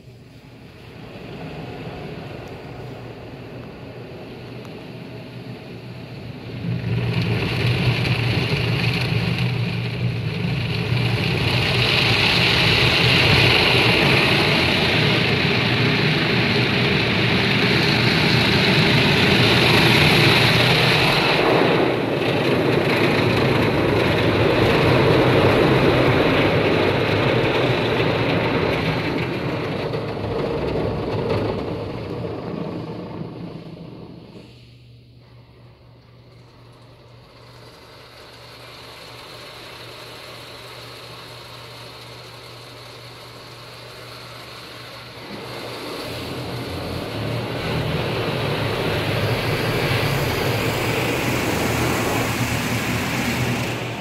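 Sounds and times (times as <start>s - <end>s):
car wash jets spraying: 0.0s - 34.9s, 36.2s - 54.0s
low hum: 0.0s - 54.0s.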